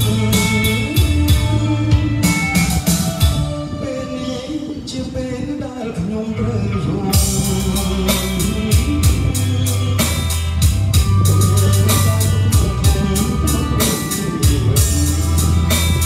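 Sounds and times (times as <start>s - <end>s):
heavy bass notes: 0.0s - 4.4s, 6.4s - 16.0s
music through speaker: 0.0s - 16.0s.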